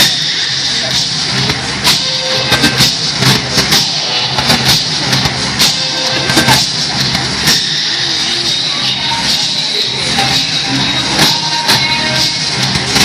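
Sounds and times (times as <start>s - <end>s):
music with percussive hits: 0.0s - 8.6s, 9.3s - 13.0s.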